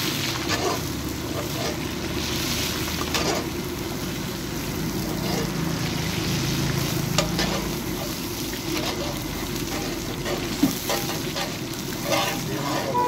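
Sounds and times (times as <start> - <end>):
metal spoon stirring oil: 0.0 - 3.6, 5.0 - 13.0
oil bubbling and sizzling: 0.0 - 13.0.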